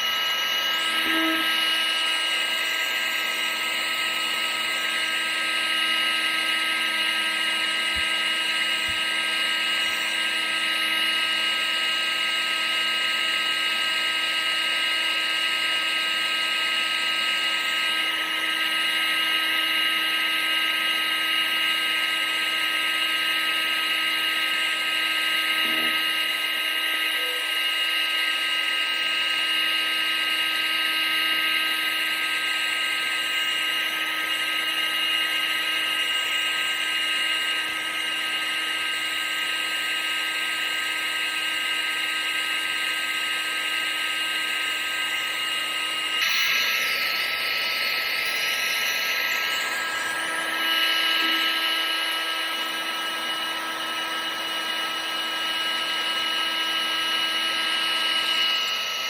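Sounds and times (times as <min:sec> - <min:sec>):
electric motor whine: 0:00.0 - 0:59.0.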